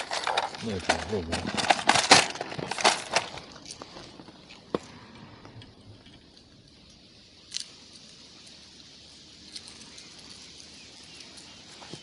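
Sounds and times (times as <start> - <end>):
quiet hiss: 0.0 - 12.0.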